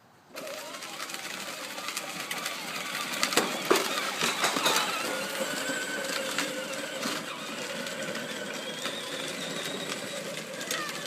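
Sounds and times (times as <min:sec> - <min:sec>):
toy tractor motor whirring: 0:00.3 - 0:11.0.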